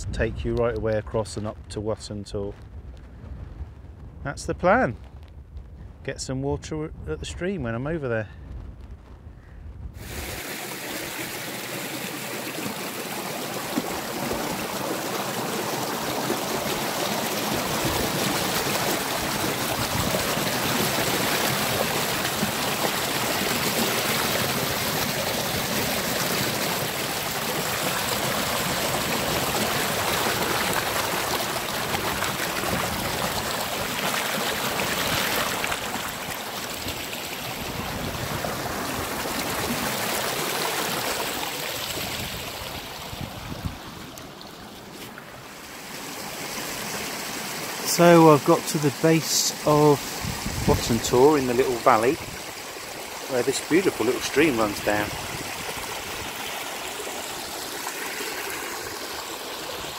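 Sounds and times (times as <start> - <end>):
stream rushing over rocks: 10.0 - 59.9.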